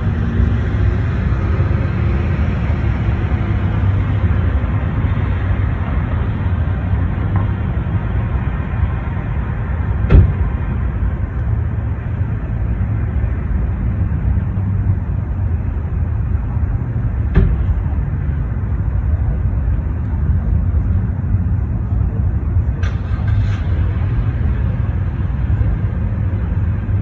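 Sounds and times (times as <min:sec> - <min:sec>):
low rumble of street traffic: 0:00.0 - 0:27.0.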